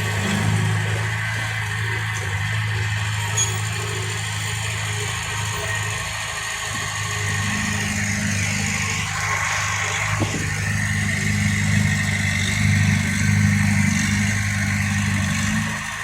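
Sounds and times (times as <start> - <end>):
heavy diesel engine humming: 0.0 - 16.0.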